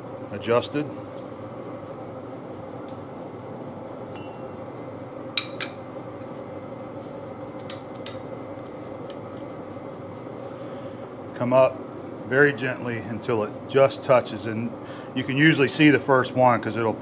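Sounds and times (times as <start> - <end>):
steady shop hum: 0.0 - 17.0.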